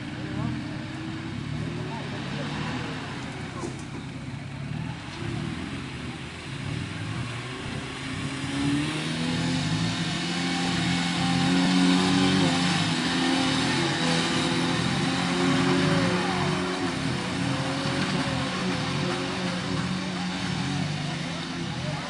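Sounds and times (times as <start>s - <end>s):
truck engine revving hard: 0.0s - 22.0s.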